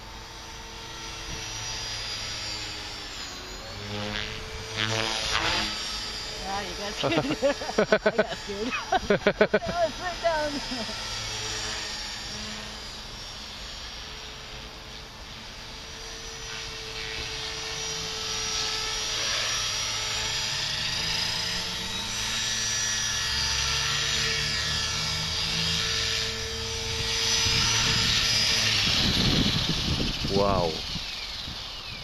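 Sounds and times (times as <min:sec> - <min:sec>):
rc helicopter motor whine: 0:00.0 - 0:32.0.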